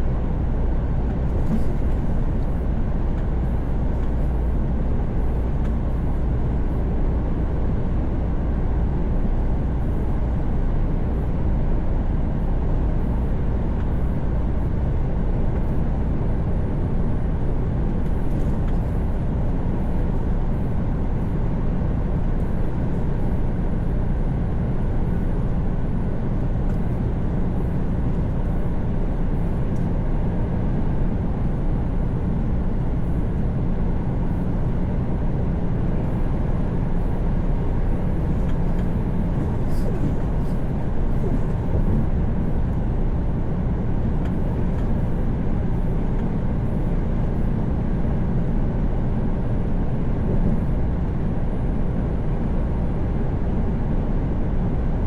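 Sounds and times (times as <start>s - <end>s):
truck engine drone: 0.0s - 55.0s.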